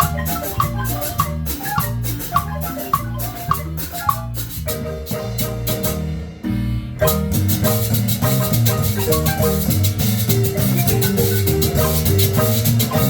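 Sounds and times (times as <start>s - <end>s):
marimba ensemble playing: 0.0s - 13.0s
percussion beat: 0.0s - 13.0s.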